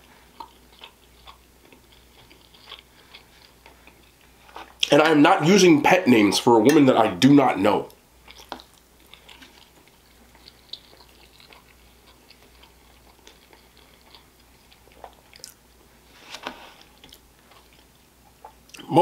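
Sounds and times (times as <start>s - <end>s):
chewing soft food: 0.0s - 4.9s, 7.9s - 18.9s.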